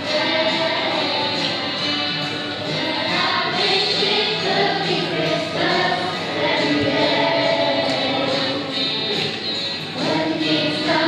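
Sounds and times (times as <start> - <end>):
choir singing: 0.0 - 2.0, 2.7 - 9.3, 9.9 - 11.0.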